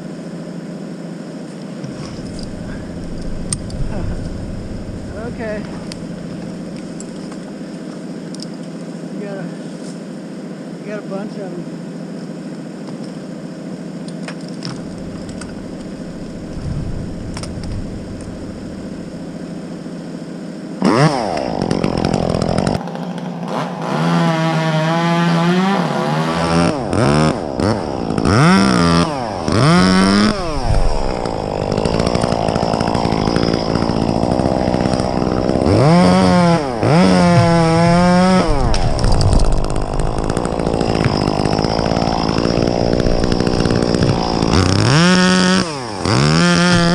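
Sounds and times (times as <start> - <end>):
chainsaw engine revving: 1.8 - 7.7, 14.6 - 22.8, 23.4 - 46.9.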